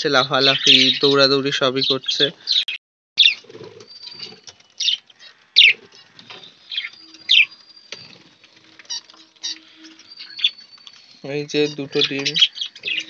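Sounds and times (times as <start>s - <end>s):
birds chirping: 0.0s - 13.0s
faint bird chatter: 0.0s - 13.0s.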